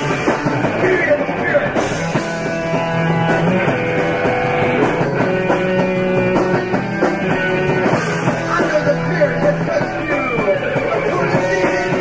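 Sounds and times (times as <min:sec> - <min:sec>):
bass: 0:00.0 - 0:12.0
drums: 0:00.0 - 0:12.0.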